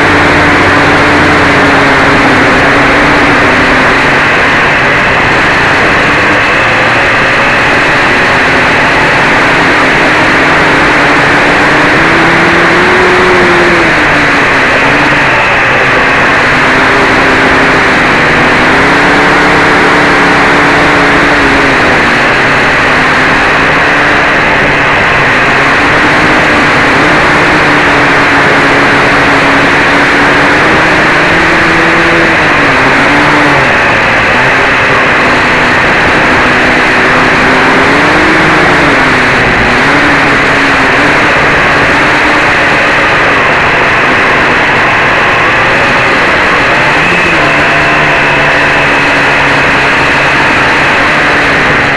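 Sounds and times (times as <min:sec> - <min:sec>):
drone motors buzzing: 0:00.0 - 0:51.9.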